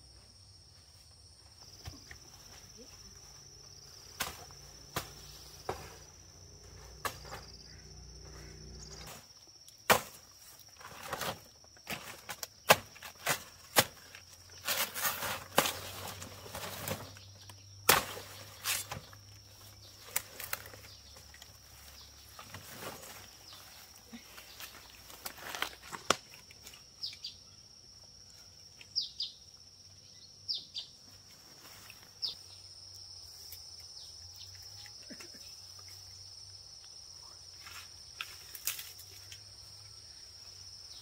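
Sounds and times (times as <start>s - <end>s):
rustles: 0.0s - 27.3s, 30.9s - 41.0s
high-pitched insect trill: 0.0s - 41.0s.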